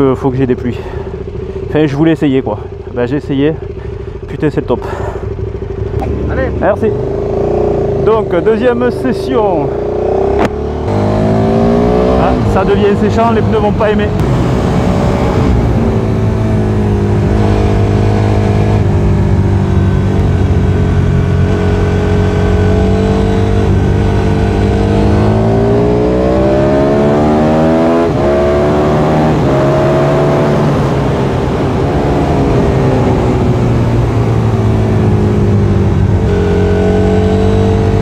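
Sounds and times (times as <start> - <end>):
motorcycle engine revving: 3.6 - 38.0.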